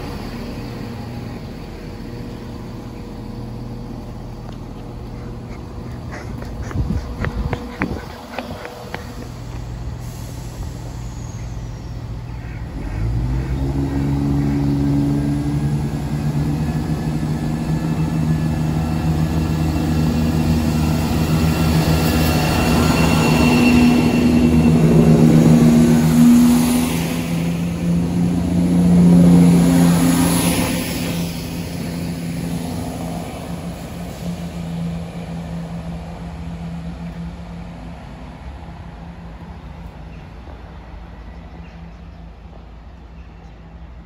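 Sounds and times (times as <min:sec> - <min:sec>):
train diesel engines droning: 0:00.0 - 0:44.0.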